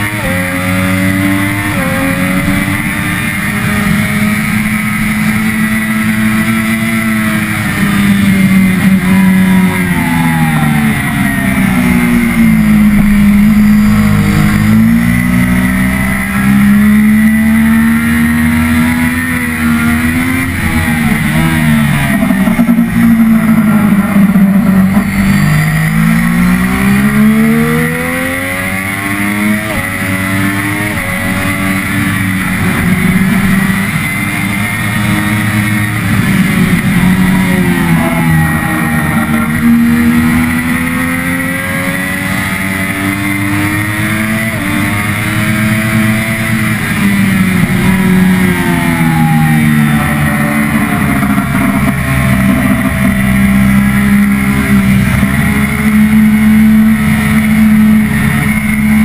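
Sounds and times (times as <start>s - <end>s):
motorcycle engine revving through upshifts: 0.0s - 59.0s.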